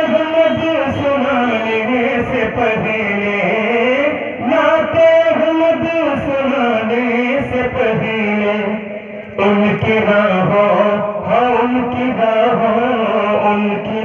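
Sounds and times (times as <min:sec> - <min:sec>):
man chanting through microphone: 0:00.0 - 0:14.0.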